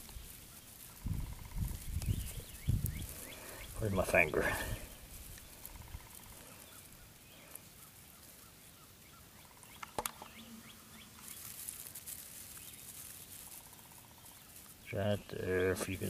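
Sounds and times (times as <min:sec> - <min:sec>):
faint bird calls: 0:00.0 - 0:16.0
rustling of dry grass and gravel: 0:00.0 - 0:16.0.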